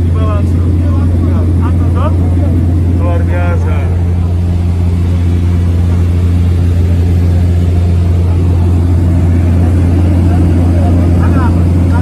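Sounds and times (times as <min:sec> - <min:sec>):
plane engine and propeller drone: 0:00.0 - 0:12.0.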